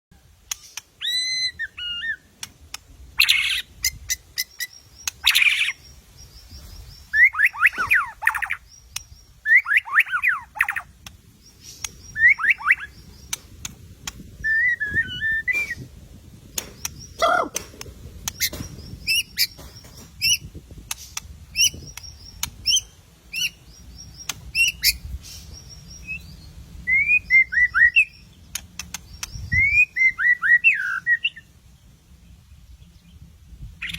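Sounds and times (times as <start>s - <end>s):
songbird singing whistles and trills: 0.2s - 2.5s, 3.2s - 17.4s, 18.2s - 31.6s, 32.3s - 33.9s.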